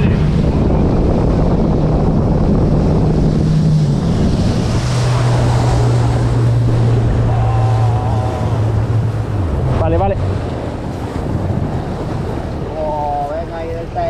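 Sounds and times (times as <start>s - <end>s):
boat engine running: 0.0s - 14.0s
sea wash: 0.0s - 14.0s
wind noise on microphone: 0.0s - 14.0s.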